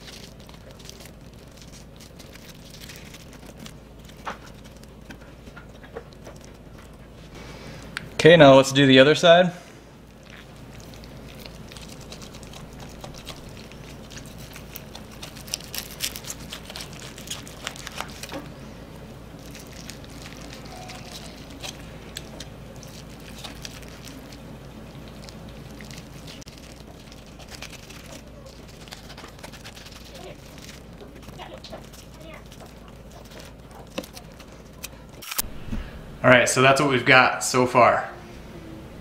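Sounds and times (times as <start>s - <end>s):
knife carving chicken: 0.0s - 8.0s, 9.9s - 35.6s
meat clicking and crackling: 0.0s - 8.2s, 9.9s - 35.5s.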